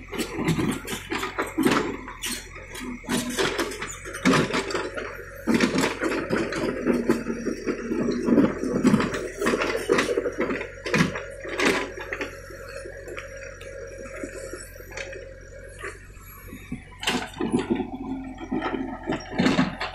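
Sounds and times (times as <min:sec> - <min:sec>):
asphalt chunks clattering: 0:00.0 - 0:19.9
backhoe bucket scraping and knocking: 0:00.0 - 0:19.9
diesel engine running: 0:00.0 - 0:19.9.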